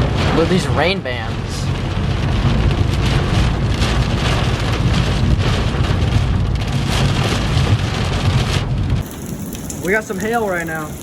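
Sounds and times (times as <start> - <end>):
heavy rain pelting a vehicle: 0.0 - 11.0
low rumble: 0.0 - 11.0.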